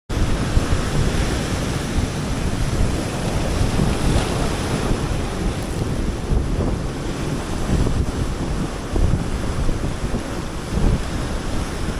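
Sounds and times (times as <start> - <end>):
ocean surf breaking on beach: 0.1 - 11.9
wind buffeting microphone: 0.1 - 11.9.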